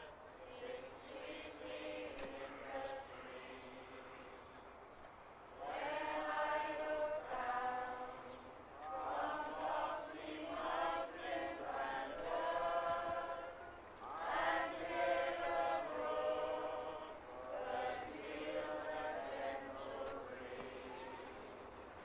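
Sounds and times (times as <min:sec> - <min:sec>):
group singing a hymn: 0:00.0 - 0:04.7, 0:05.6 - 0:21.8.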